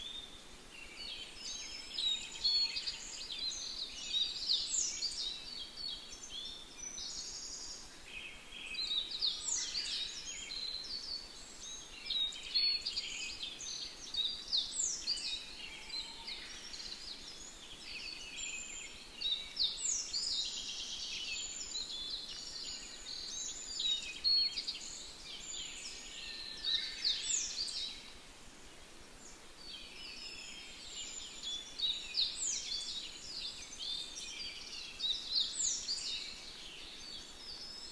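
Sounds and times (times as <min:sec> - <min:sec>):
birds chirping in chorus: 0:00.0 - 0:37.9.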